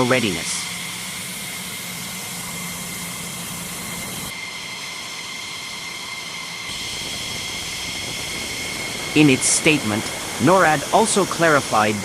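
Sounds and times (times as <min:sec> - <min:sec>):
jet engine running: 0:00.0 - 0:12.0.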